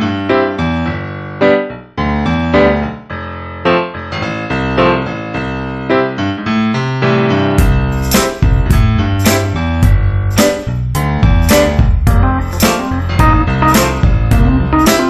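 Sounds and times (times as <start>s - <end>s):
instrumental keyboard melody: 0.0s - 15.0s.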